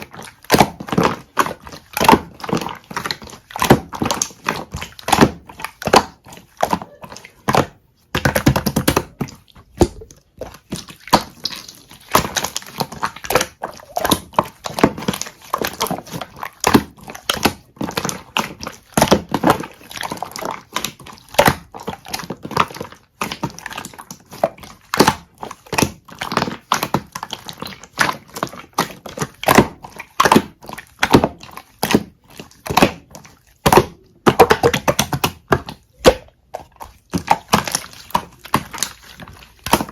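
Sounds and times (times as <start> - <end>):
slime squished by hand: 0.0 - 39.9
wet clicks and pops: 0.0 - 39.9.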